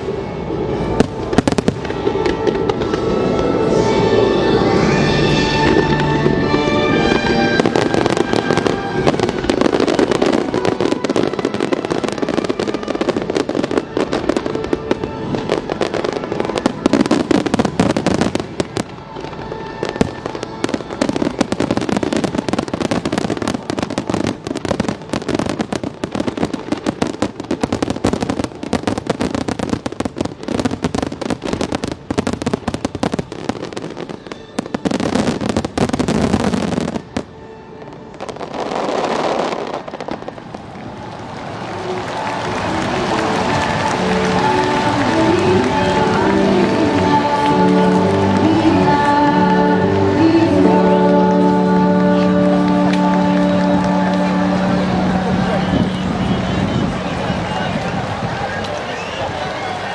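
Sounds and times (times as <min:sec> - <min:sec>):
fireworks bursting and crackling: 0:00.0 - 0:59.9
music playing: 0:00.0 - 0:59.9.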